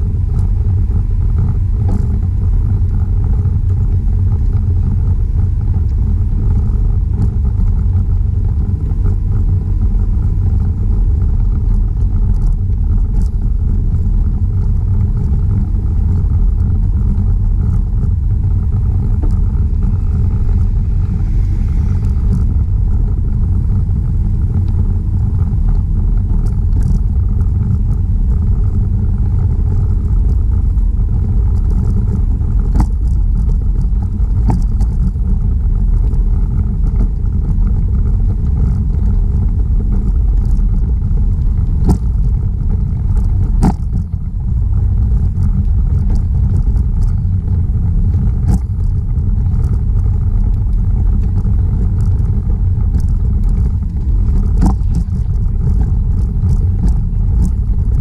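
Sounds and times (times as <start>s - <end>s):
tyres rolling over asphalt: 0.0s - 58.0s
wind buffeting microphone: 0.0s - 58.0s.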